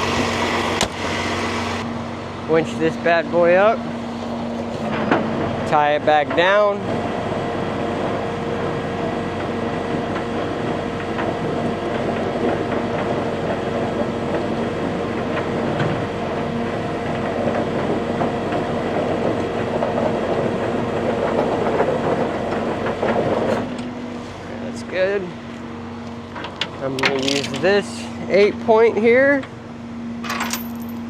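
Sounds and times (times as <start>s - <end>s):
winch humming and rattling: 0.0s - 31.0s.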